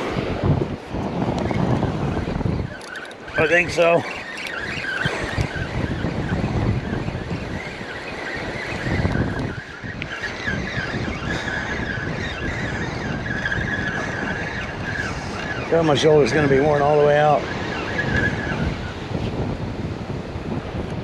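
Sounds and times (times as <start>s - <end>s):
wind on microphone: 0.0s - 21.0s
fishing reel gear whine: 1.3s - 21.0s.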